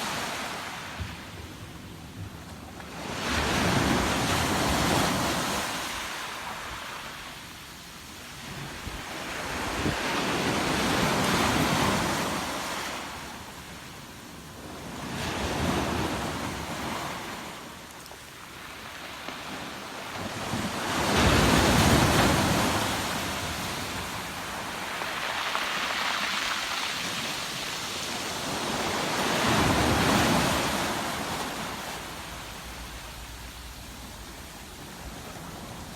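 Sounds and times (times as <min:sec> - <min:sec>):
ocean waves breaking on shore: 0:00.0 - 0:07.7, 0:08.3 - 0:17.8, 0:18.4 - 0:35.9.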